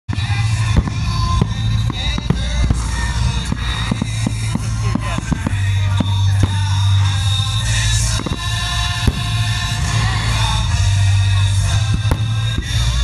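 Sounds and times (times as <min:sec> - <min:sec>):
fireworks bangs and pops: 0:00.1 - 0:13.0
loud music with bass line: 0:00.1 - 0:13.0.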